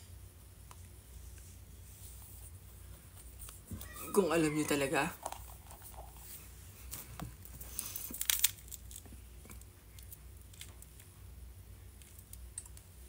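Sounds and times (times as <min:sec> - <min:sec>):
rustling and crinkling: 0:00.6 - 0:11.2.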